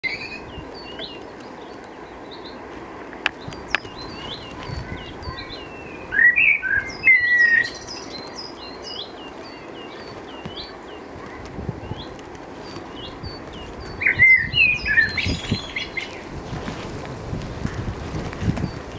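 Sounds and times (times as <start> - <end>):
bird warbling: 0.0 - 16.5
songbird chirping: 0.0 - 18.9.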